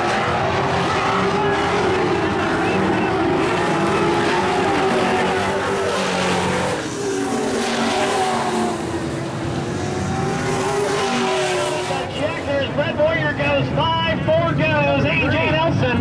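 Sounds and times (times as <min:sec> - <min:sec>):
race truck engines: 0:00.0 - 0:16.0.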